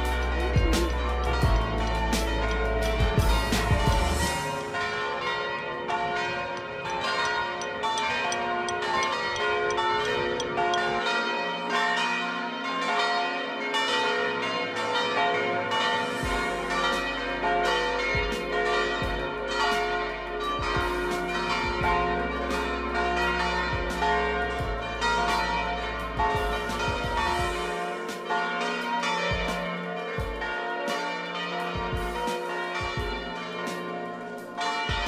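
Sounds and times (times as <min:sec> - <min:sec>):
bells ringing in music: 0:00.0 - 0:35.0.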